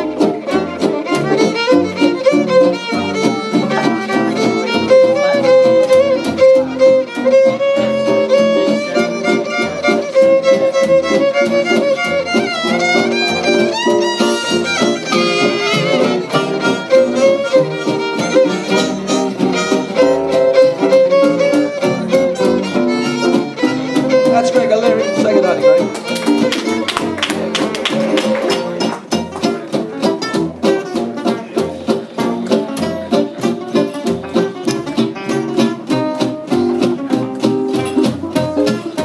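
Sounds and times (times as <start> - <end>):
fiddle melody: 0.0 - 39.0
live band playing: 0.0 - 39.0.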